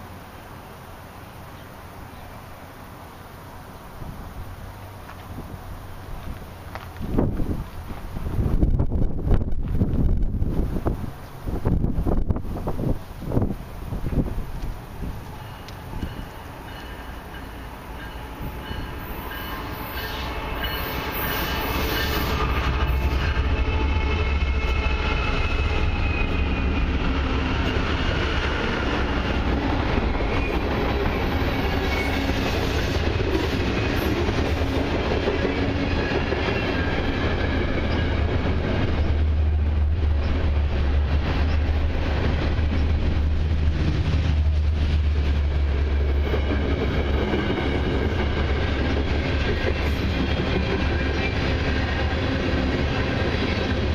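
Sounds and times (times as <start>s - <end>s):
diesel locomotives: 0.0s - 53.9s
freight cars rolling past: 0.0s - 53.9s.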